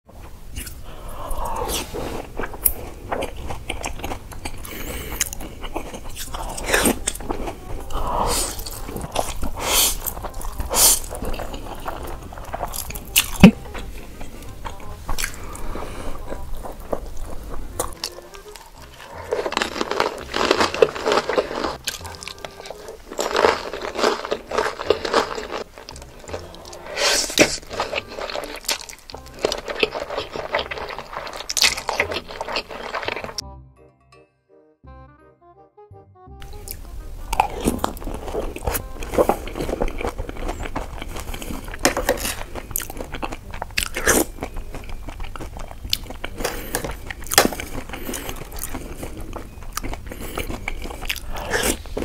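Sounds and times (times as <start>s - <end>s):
crunching and chewing food: 0.1s - 33.4s, 36.4s - 52.0s
background music: 0.6s - 52.0s.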